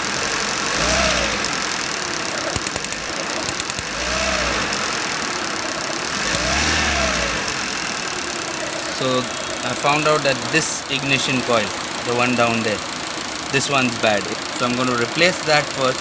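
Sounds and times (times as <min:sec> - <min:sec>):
car engine revving: 0:00.0 - 0:16.0
engine misfire: 0:00.0 - 0:16.0.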